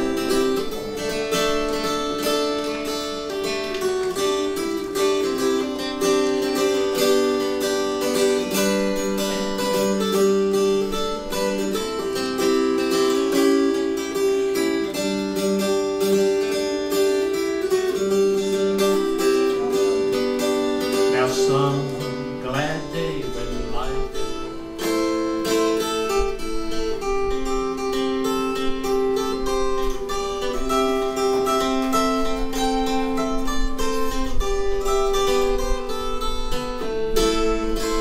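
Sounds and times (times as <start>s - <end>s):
mountain dulcimer strummed: 0.0s - 38.0s.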